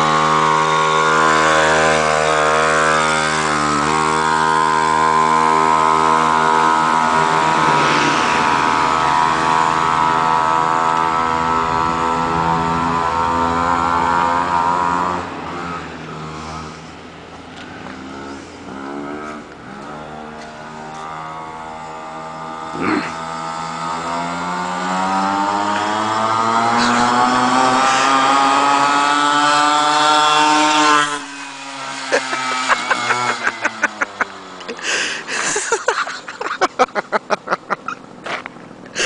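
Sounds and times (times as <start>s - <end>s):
mini motorbike engine at high revs: 0.0s - 39.0s.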